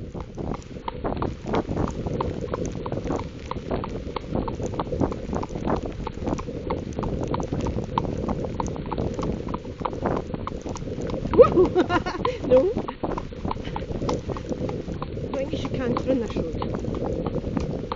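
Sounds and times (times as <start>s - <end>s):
horse hooves on wet ground: 0.0s - 17.9s
wind rumble on microphone: 0.0s - 17.9s.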